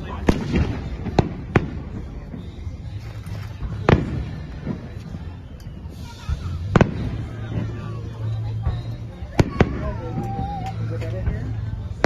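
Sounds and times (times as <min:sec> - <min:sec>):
distant fireworks bangs: 0:00.0 - 0:10.5
faint fireworks pops: 0:00.0 - 0:12.0.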